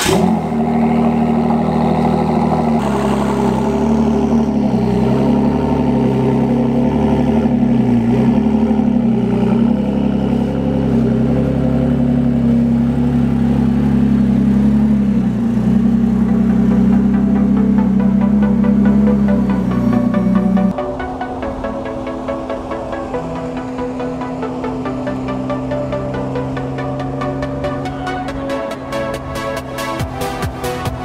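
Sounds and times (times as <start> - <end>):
car engine starting and idling: 0.0 - 31.0.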